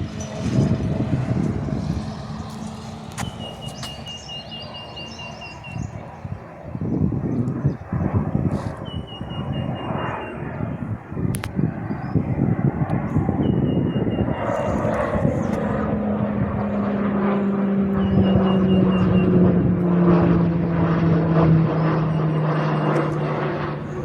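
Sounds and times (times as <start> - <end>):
aircraft engine drone flying past: 0.0 - 24.0.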